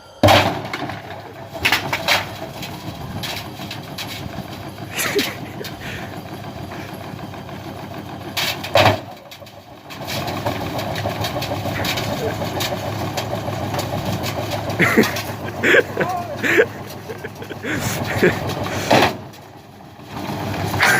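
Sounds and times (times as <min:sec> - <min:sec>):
washing machine motor drone: 0:00.7 - 0:20.9.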